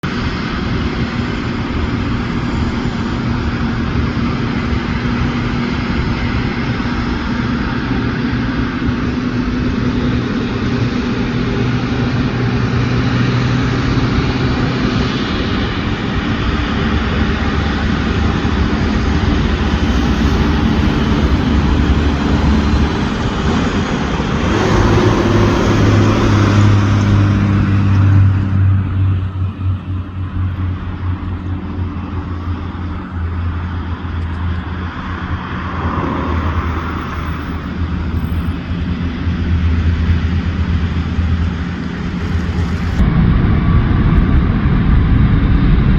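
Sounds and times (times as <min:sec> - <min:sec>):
jet engines running: 0:00.0 - 0:45.9
low hum: 0:00.0 - 0:45.9.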